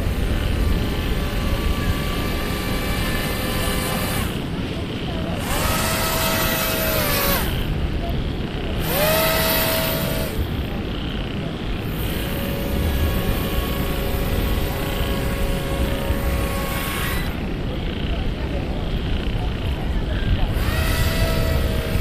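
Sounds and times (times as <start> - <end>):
model boat propellers whining: 0.0 - 22.0.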